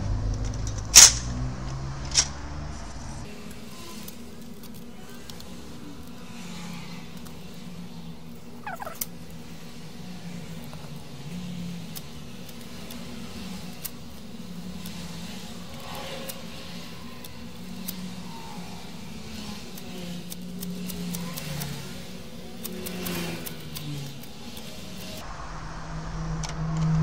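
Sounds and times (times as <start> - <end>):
low motor hum: 0.0 - 4.3, 5.0 - 27.0.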